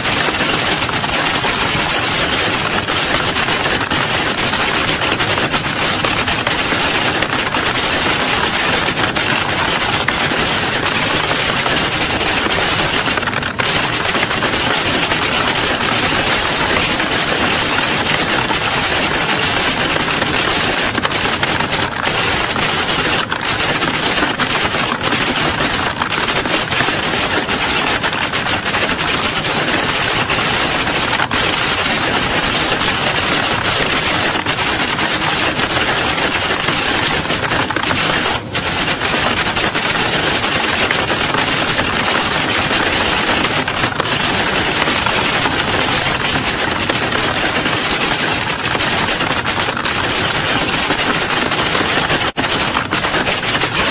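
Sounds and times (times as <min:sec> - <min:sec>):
many people typing on keyboards: 0:00.0 - 0:53.9.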